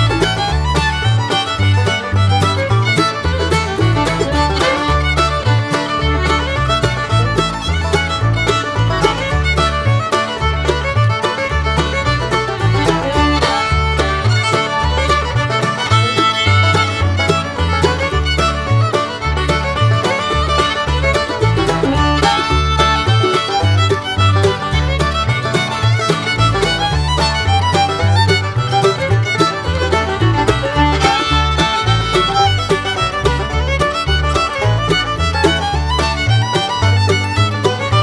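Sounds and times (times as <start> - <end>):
fiddle: 0.0 - 38.0
plucked strings: 0.0 - 38.0
walking bass line: 0.0 - 38.0.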